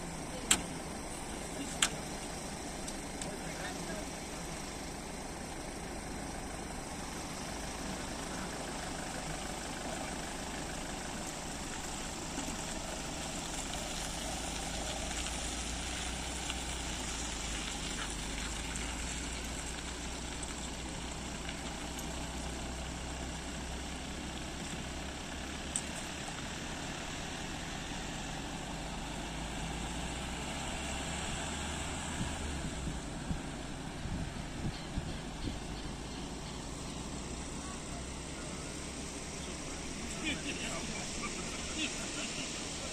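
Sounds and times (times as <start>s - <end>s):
outdoor hiss: 0.0s - 42.9s
van engine idling: 0.0s - 42.9s.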